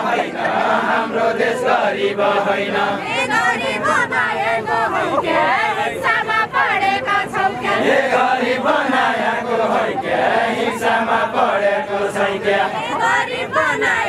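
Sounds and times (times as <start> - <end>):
group of men singing in chorus: 0.0 - 14.0.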